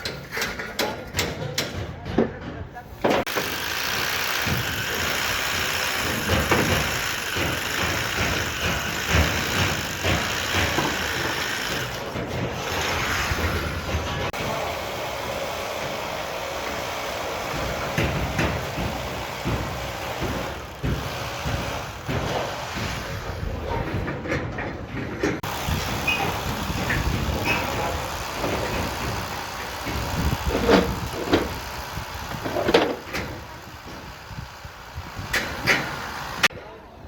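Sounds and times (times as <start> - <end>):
knocks and clatter: 0.0 - 14.4, 17.5 - 34.5
construction machinery rumbling: 0.0 - 37.0.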